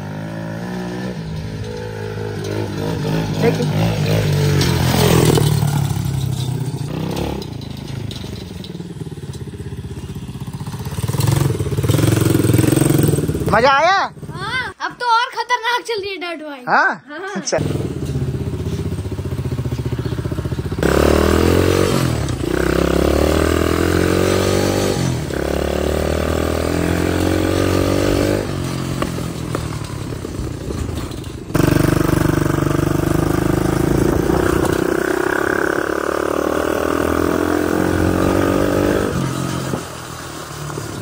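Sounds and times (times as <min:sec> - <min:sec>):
dirt bike engine accelerating: 0:00.0 - 0:14.7, 0:17.6 - 0:41.0.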